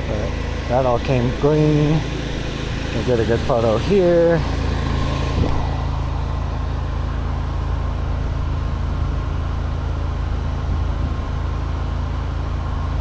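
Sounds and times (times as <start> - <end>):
engine idling with low hum: 0.0 - 13.0.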